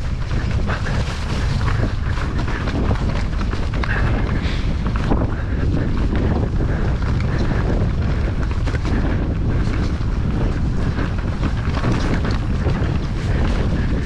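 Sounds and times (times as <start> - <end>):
bike knocks and rattles: 0.0 - 14.0
bike tyre noise: 0.0 - 14.0
wind buffeting microphone: 0.0 - 14.0.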